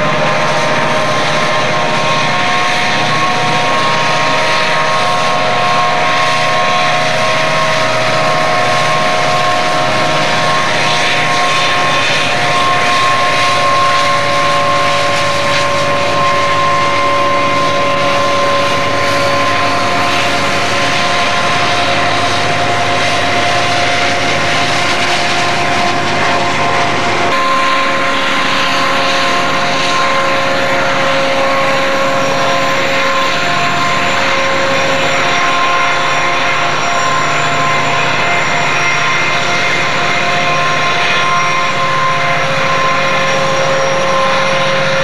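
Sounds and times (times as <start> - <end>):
diesel locomotives rumbling and whining: 0.0 - 45.0.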